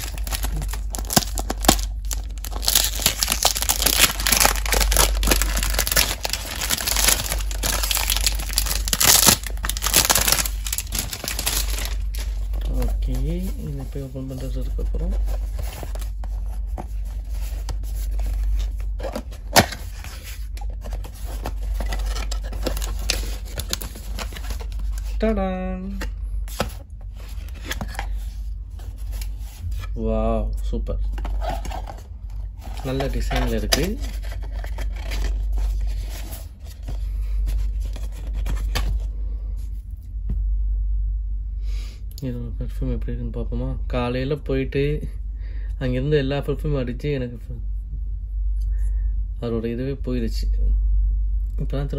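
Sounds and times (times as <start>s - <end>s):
low rumble: 0.0s - 41.7s
steady low hum: 0.0s - 51.9s.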